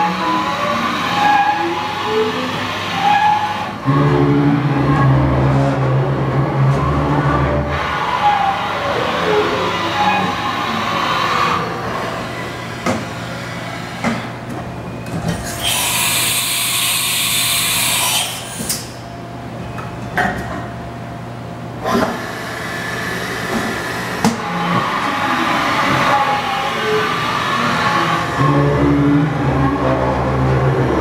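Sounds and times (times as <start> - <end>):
low machine hum: 3.6 - 31.0.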